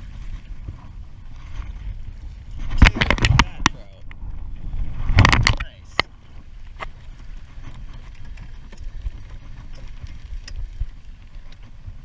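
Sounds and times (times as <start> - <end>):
water slapping boat hull: 0.0 - 12.0
wind buffeting microphone: 0.0 - 12.0.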